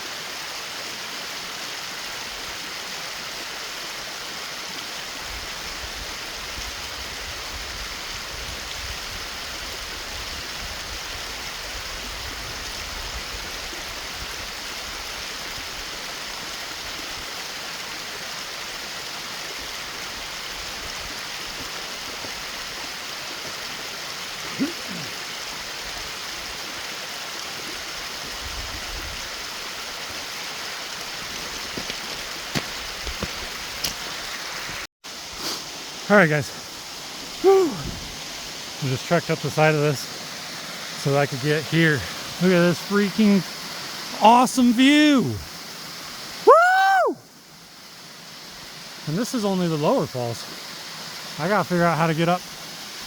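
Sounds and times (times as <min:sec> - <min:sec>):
water rushing over rocks: 0:00.0 - 0:53.0.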